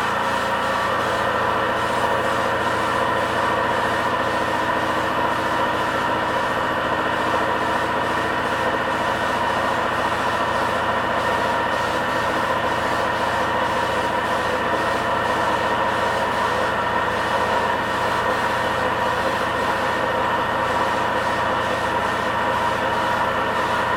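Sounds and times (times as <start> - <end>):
air compressor running: 0.0 - 23.9.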